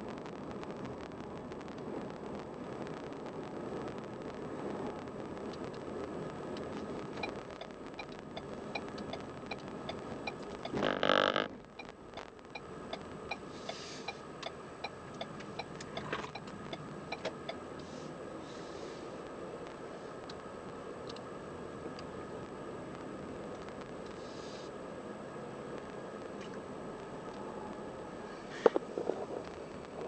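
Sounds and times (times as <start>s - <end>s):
tyre and road noise: 0.0s - 30.0s.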